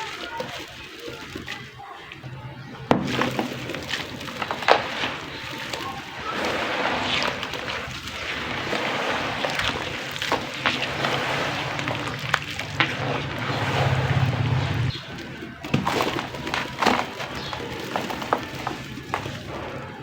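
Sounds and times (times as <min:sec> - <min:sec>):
clay crackling in water: 0:00.0 - 0:20.0.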